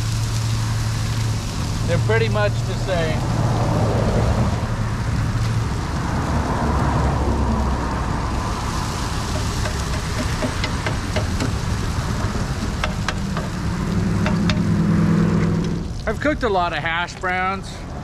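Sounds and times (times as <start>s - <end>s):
food sizzling on a griddle: 0.0s - 16.6s
low rumble: 0.0s - 16.8s.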